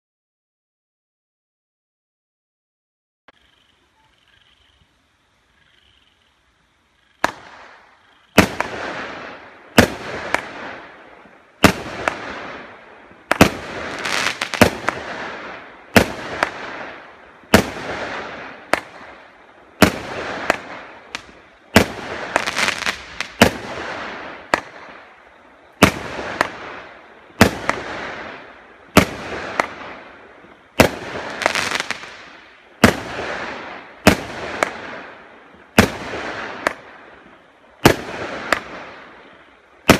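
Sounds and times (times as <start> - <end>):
firework shots with crackle: 7.2 - 39.9.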